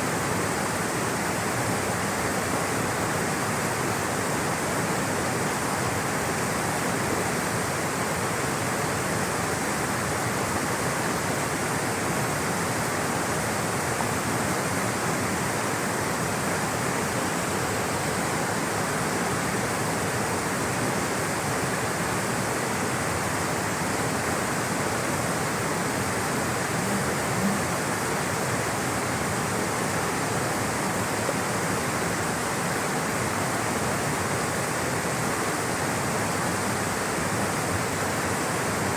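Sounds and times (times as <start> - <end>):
water rushing: 0.0 - 38.9.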